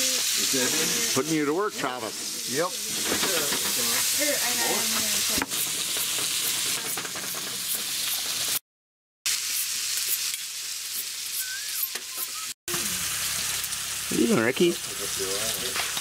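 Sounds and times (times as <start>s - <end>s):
meat sizzling in a frying pan: 0.0s - 8.6s, 9.3s - 16.0s.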